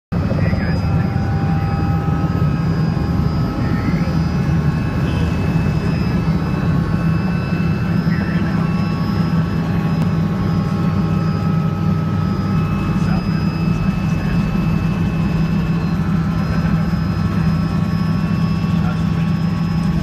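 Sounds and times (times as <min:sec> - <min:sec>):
helicopter drone: 0:00.1 - 0:20.0
high-pitched whining tones: 0:00.2 - 0:20.0.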